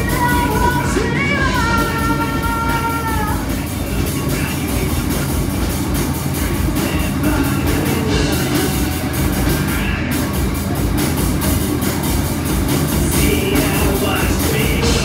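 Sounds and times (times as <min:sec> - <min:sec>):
drum hits: 0:00.0 - 0:15.0
rock band playing live: 0:00.0 - 0:15.0.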